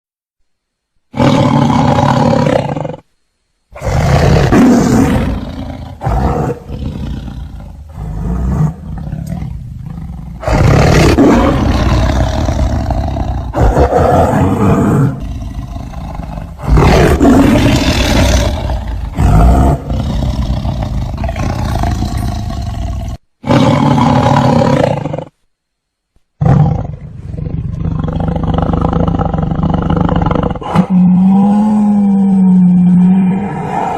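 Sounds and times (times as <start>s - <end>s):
tiger roaring: 1.1s - 3.0s, 3.7s - 25.3s, 26.4s - 33.9s.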